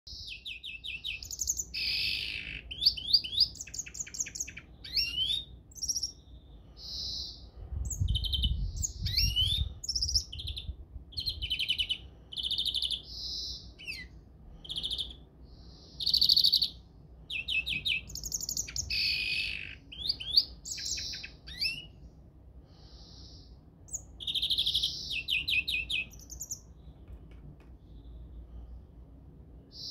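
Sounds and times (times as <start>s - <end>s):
greenfinch singing: 0.1s - 28.5s.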